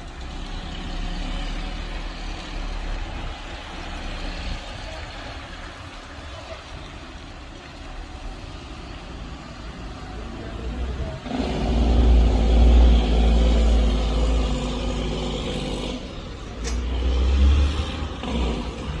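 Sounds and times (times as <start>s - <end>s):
truck engine pulling under load: 0.0s - 19.0s.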